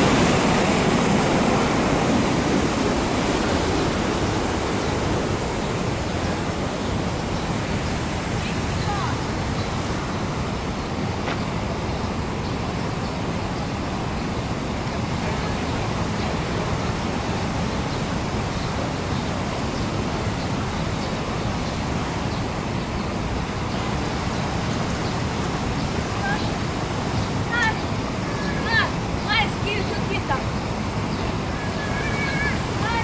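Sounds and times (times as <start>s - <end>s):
fast-flowing river water rushing: 0.0s - 33.0s.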